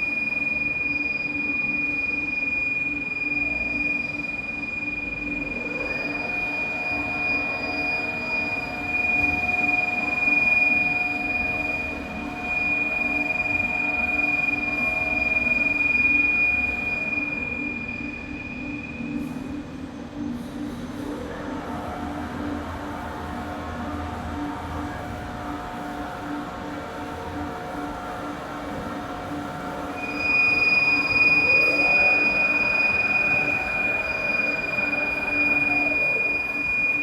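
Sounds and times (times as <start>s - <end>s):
lower machine tone: 0.0s - 37.0s
machine drives high whine: 0.0s - 37.0s.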